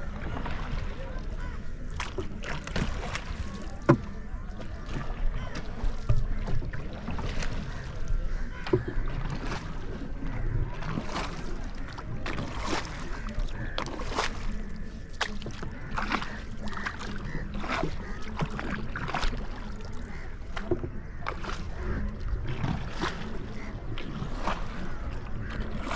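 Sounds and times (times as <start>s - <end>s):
paddle splashes and knocks: 0.0s - 25.9s.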